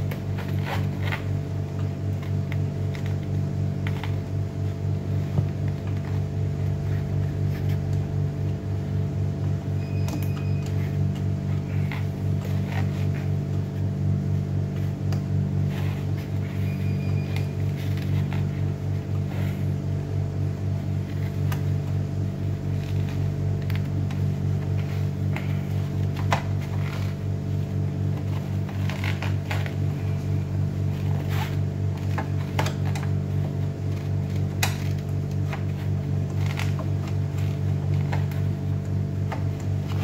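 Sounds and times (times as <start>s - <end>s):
machine electrical hum: 0.0s - 40.0s.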